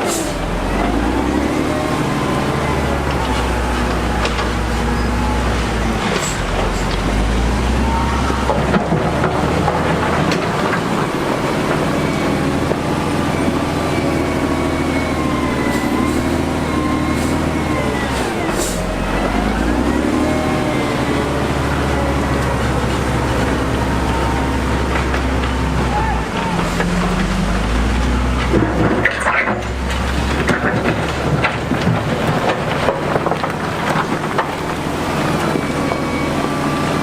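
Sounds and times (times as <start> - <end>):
heavy machinery engine under load: 0.0 - 37.0.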